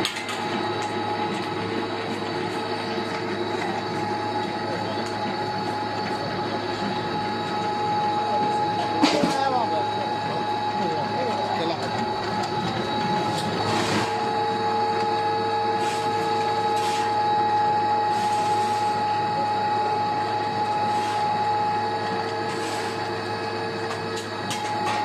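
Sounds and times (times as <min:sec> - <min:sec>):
pellet mill mechanical hum: 0:00.0 - 0:25.0.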